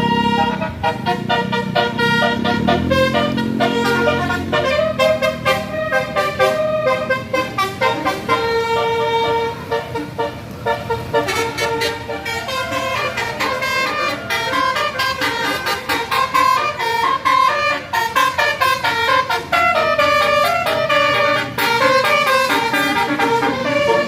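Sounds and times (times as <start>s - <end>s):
multi-tone bus horn playing tune: 0.0s - 24.0s.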